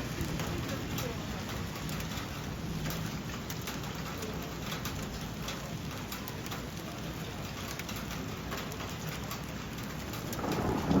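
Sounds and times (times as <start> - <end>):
rain falling: 0.0 - 11.0
raindrops ticking: 0.0 - 11.0.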